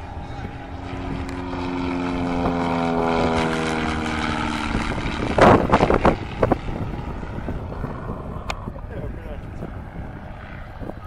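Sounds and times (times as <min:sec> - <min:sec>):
propeller aircraft flying overhead: 0:00.0 - 0:11.0.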